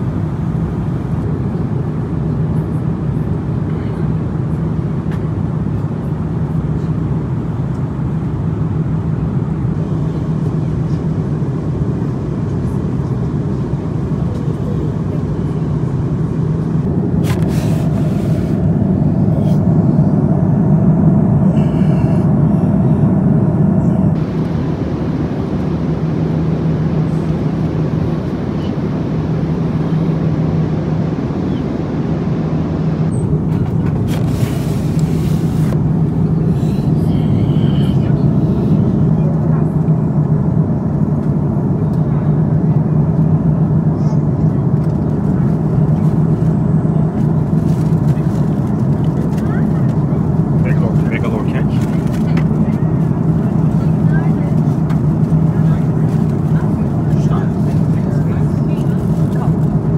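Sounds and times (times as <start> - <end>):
airliner engines drone in cabin: 0.0 - 59.9
higher engine tone: 7.5 - 59.9.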